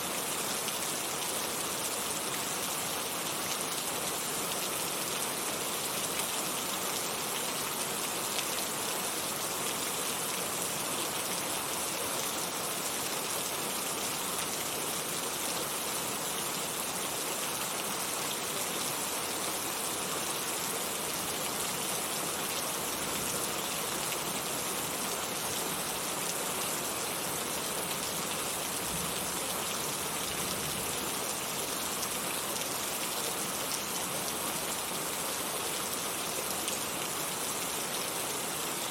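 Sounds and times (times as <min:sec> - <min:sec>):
heavy rain on hard surfaces: 0:00.0 - 0:38.9.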